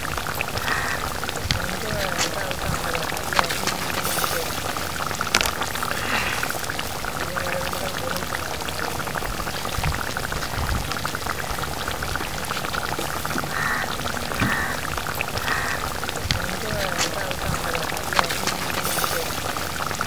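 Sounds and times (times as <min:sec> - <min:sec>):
curry bubbling in pan: 0:00.0 - 0:20.0.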